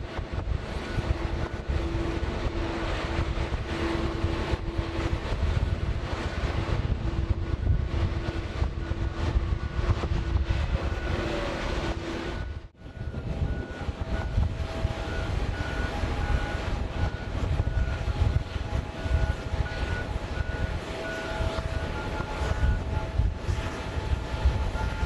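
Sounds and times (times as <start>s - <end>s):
jet engine whining tones: 0.0s - 25.0s
jet engines rumbling: 0.0s - 25.0s.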